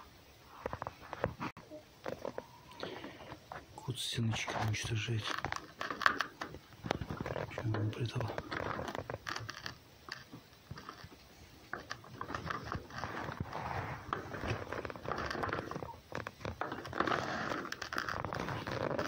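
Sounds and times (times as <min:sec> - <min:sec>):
rustling: 0:00.4 - 0:19.0
animal crunching and chewing: 0:00.6 - 0:19.0.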